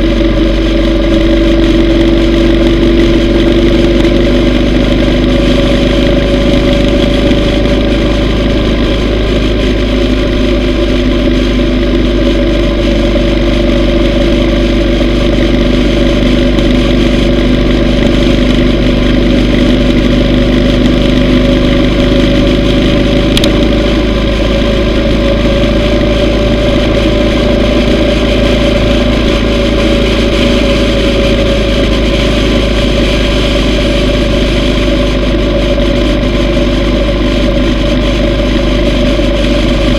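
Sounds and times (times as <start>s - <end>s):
motorcycle engine cruising: 0.0s - 39.9s
wind noise rumble: 0.0s - 39.9s.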